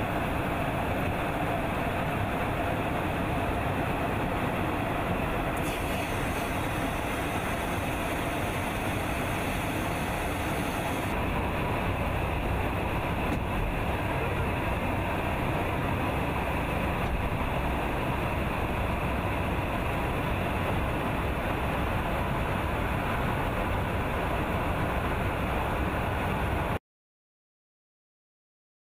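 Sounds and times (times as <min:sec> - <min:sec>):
aircraft airflow and engines rushing: 0:00.0 - 0:26.8.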